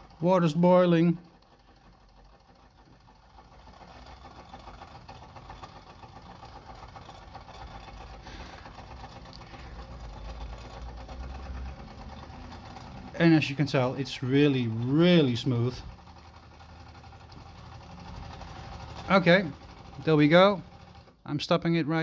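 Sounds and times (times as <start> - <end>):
toy steam engine running: 0.0 - 22.0.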